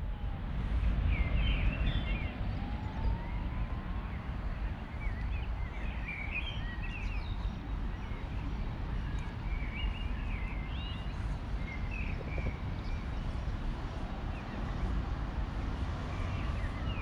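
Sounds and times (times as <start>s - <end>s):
small songbirds chirping: 0.9s - 3.4s, 4.0s - 17.0s.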